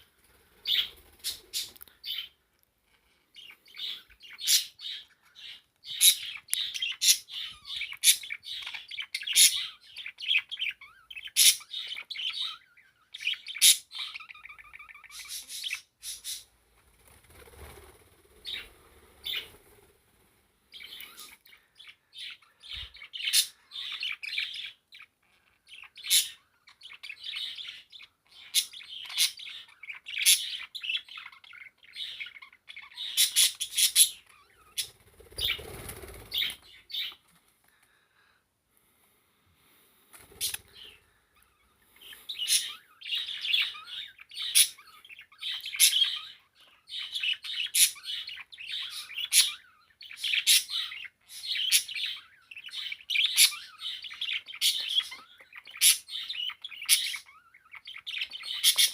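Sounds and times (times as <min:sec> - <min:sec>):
parakeet chirping and warbling: 0:00.6 - 0:02.4, 0:03.4 - 0:16.5, 0:17.3 - 0:19.8, 0:20.7 - 0:37.2, 0:40.4 - 0:58.9.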